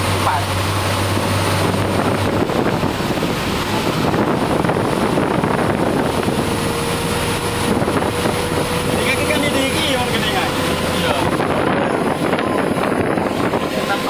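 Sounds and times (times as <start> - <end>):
truck engine running: 0.0 - 14.0
wind: 0.0 - 14.0.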